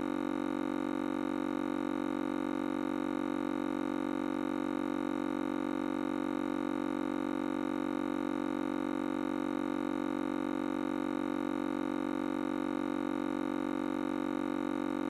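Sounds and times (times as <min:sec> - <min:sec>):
steady electronic hum tone: 0:00.0 - 0:15.0.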